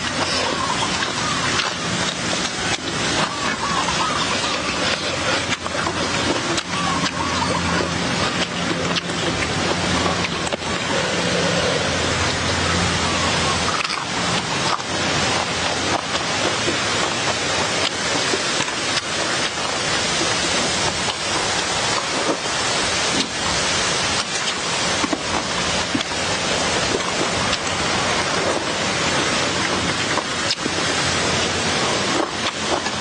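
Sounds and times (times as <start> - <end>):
man chewing food: 0.0 - 33.0
mouth smacks and clicks: 0.0 - 33.0
steady loud hiss: 0.0 - 33.0.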